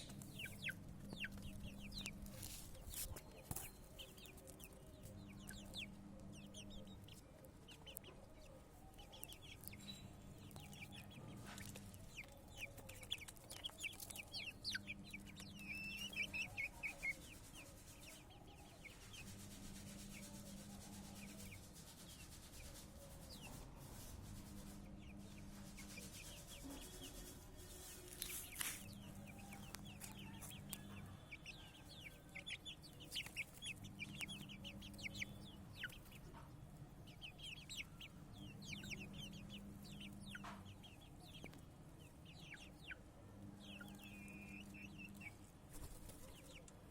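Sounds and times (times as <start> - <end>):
chicken clucking: 0.0 - 46.9
chicks peeping: 0.0 - 46.9.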